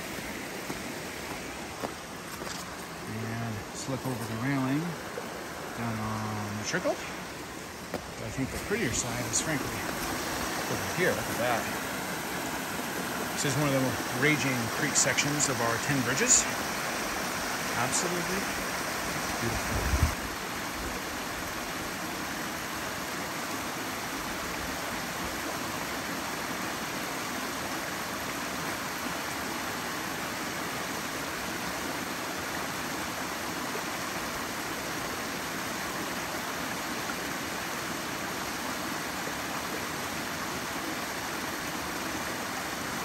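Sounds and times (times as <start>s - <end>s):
mountain creek rushing: 0.0s - 43.0s.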